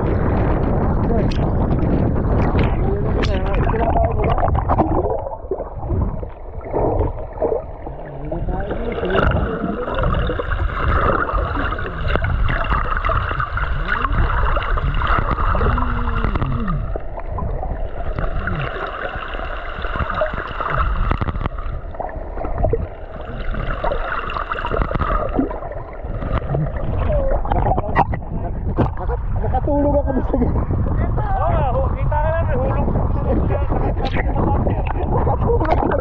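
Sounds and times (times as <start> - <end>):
seawater sloshing and gurgling: 0.0 - 36.0
steady low rumble: 0.0 - 36.0.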